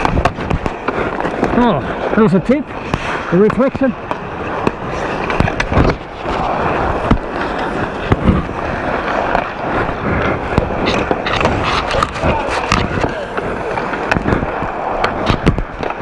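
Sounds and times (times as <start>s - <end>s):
hockey sticks and puck knocking: 0.0s - 16.0s
skate blades scraping on ice: 0.0s - 16.0s.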